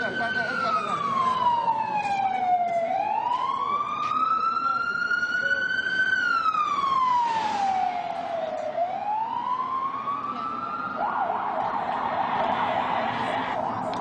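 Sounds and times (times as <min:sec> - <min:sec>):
ambulance siren wailing and yelping: 0:00.0 - 0:14.0.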